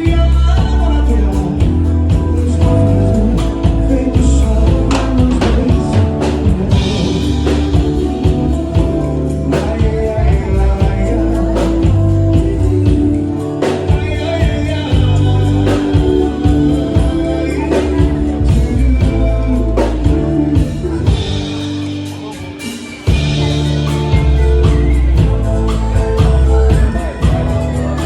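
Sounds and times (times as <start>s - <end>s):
bass and beat: 0.0s - 28.0s
guitar accompaniment: 0.0s - 28.0s
person singing: 0.0s - 28.0s.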